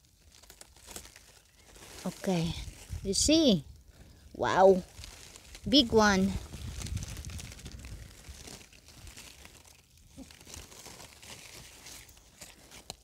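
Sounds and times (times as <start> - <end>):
leaves rustling and crinkling: 0.0 - 13.0.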